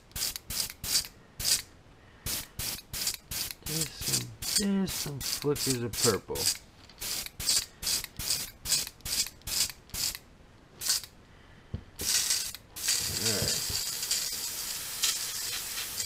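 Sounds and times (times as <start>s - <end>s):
airbrush hissing bursts: 0.0s - 10.2s, 10.8s - 11.1s, 12.0s - 16.0s
steady hiss of air: 0.0s - 16.0s.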